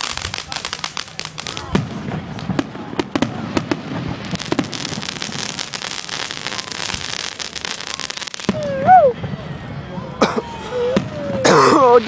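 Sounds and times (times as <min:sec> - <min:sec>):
fireworks popping and crackling: 0:00.0 - 0:12.0.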